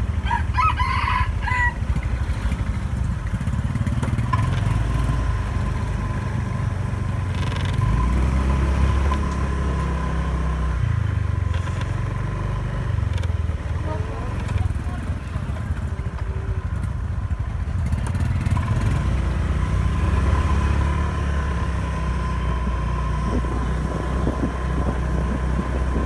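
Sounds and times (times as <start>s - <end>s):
road and wind noise: 0.0s - 26.0s
scooter engine running: 0.0s - 26.0s.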